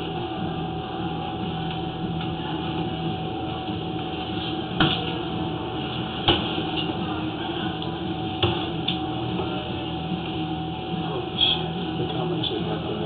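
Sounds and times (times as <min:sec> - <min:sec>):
machine hum with held tone: 0:00.0 - 0:13.0.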